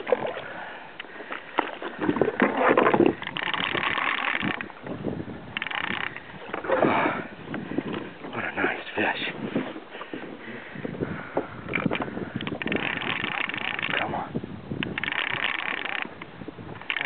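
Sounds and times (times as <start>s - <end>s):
fishing gear rustling and knocking: 0.0s - 14.1s, 14.8s - 17.0s
water splashing around kayak: 0.0s - 17.0s.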